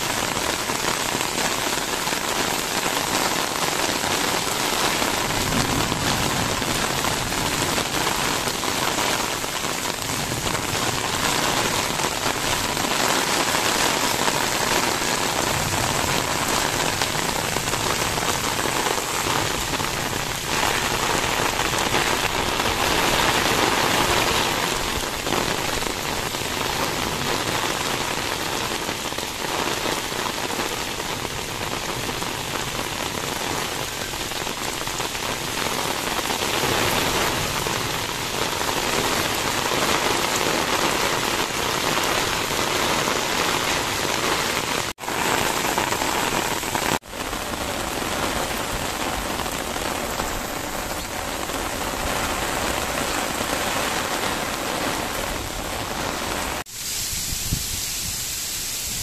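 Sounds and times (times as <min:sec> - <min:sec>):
heavy rain on wet paving: 0:00.0 - 0:59.0.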